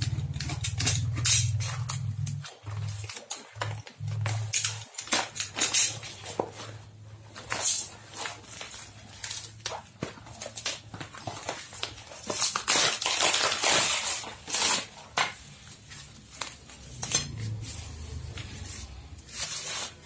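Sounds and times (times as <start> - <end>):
bubble wrap and cardboard rustling: 0.0 - 20.0.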